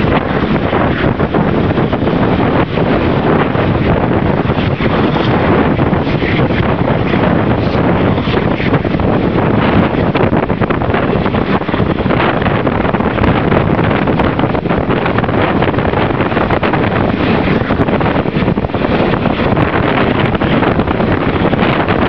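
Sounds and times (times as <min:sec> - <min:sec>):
train running noise: 0:00.0 - 0:22.0
wind buffeting microphone: 0:00.0 - 0:22.0.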